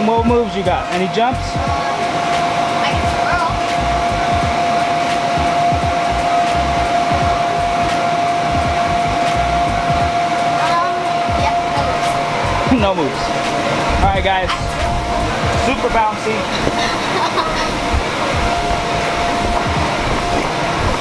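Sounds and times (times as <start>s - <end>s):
inflation blower whining: 0.0s - 21.0s.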